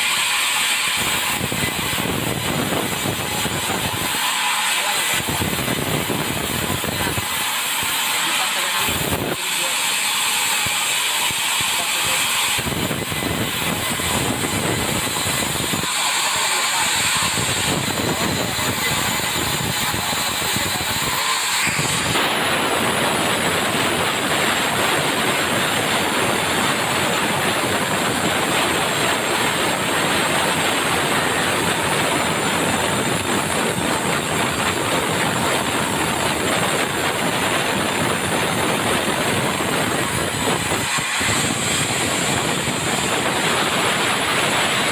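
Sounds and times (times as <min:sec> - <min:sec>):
sawmill saw cutting log: 0:00.0 - 0:44.9.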